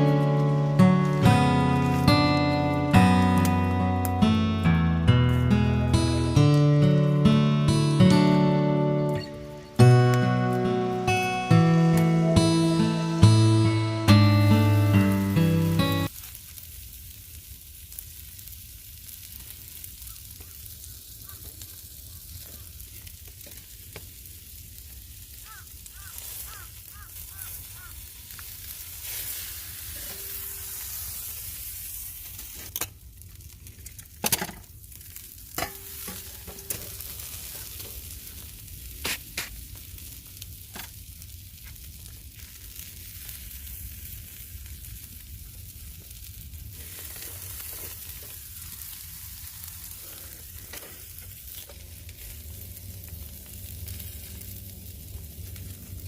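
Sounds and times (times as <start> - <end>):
food sizzling: 0.0 - 56.0.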